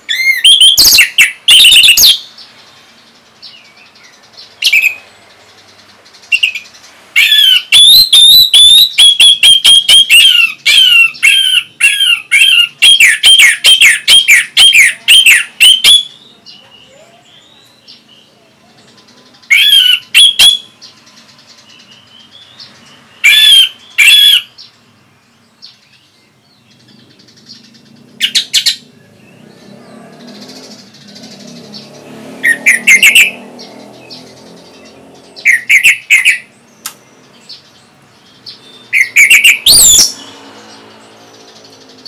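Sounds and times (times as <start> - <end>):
thrush singing whistled notes: 0.0 - 42.0.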